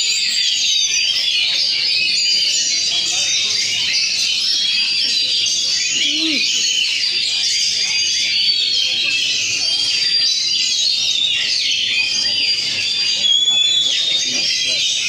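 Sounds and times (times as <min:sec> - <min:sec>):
chorus of songbirds: 0:00.0 - 0:15.0.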